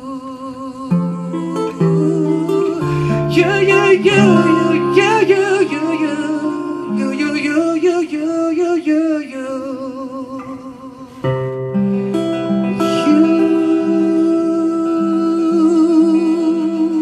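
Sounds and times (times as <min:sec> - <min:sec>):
guitar accompaniment: 0:00.0 - 0:17.0
man singing with vibrato: 0:00.0 - 0:17.0.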